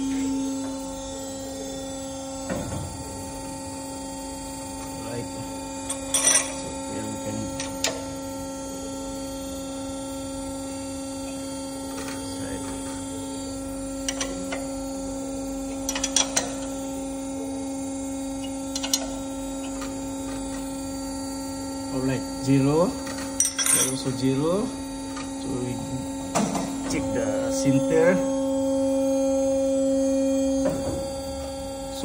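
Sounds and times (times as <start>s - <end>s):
electrical hum of machinery: 0.0s - 32.0s.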